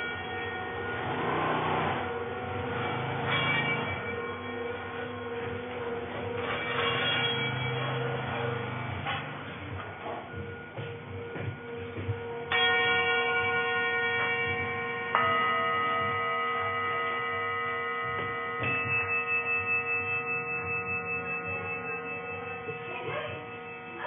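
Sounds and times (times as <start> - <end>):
metal singing bowls ringing: 0.0 - 24.0.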